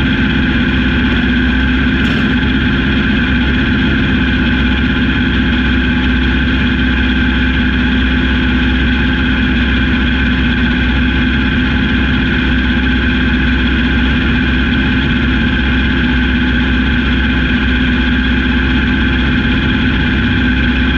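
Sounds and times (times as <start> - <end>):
racing car engine idling: 0.0 - 20.9.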